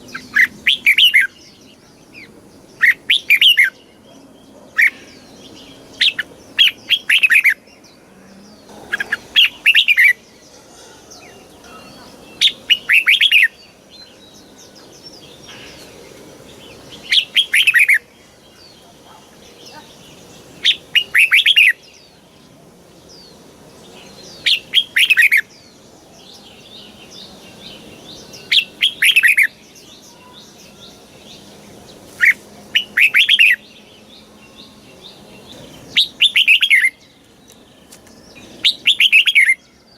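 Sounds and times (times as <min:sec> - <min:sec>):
bird singing bubbling phrases: 0:00.0 - 0:16.1, 0:16.7 - 0:37.2, 0:38.5 - 0:39.6
faint background hiss: 0:00.0 - 0:39.9.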